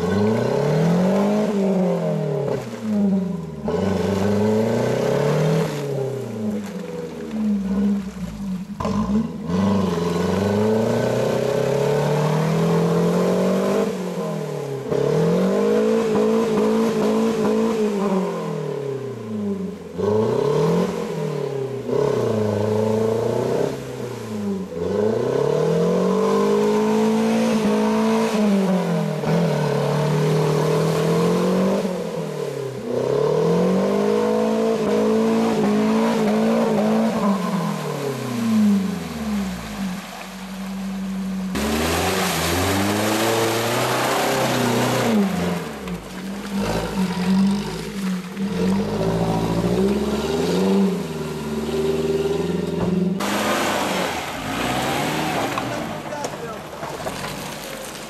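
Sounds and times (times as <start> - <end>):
car engine revving hard: 0.0 - 6.5, 7.4 - 40.0, 41.5 - 58.0.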